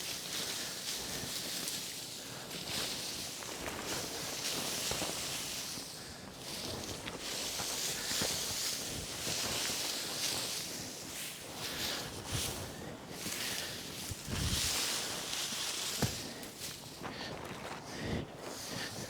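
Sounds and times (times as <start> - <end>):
footsteps crunching through snow: 0.0 - 19.0.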